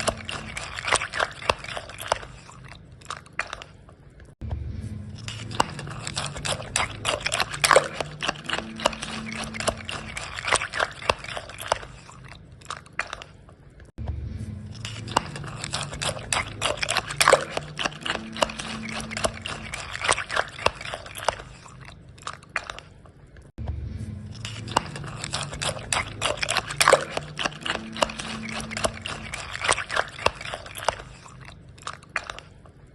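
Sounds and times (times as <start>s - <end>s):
spoon stirring cereal in a bowl: 0.0s - 3.8s, 5.2s - 13.4s, 14.8s - 23.0s, 24.4s - 32.8s.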